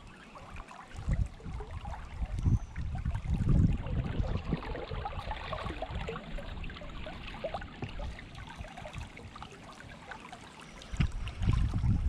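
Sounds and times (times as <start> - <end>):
creek water babbling: 0.0 - 12.0.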